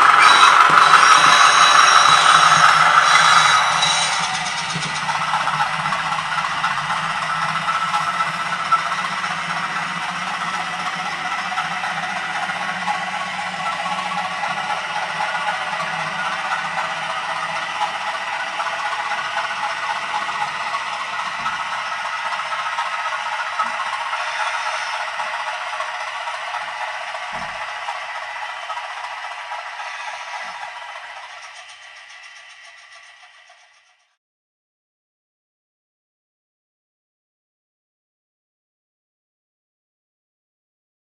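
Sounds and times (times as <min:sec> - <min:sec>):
model train rattling: 0:00.0 - 0:34.2.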